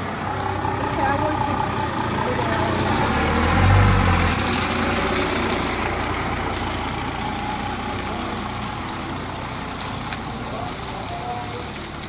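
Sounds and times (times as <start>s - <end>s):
bus engines running: 0.0s - 12.0s.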